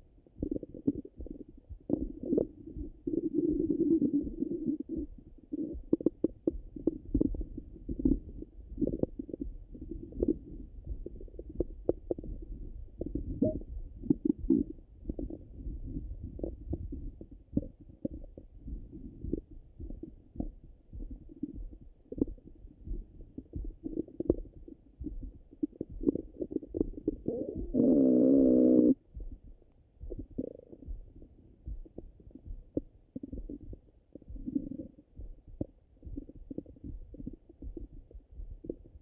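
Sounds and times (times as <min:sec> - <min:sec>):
drawn-out wavering stomach gurgle: 0:00.0 - 0:39.0
stomach clicks and gurgles: 0:00.0 - 0:39.0.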